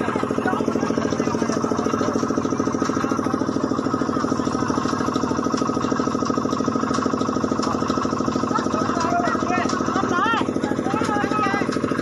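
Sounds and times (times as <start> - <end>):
small engine throbbing: 0.0 - 12.0.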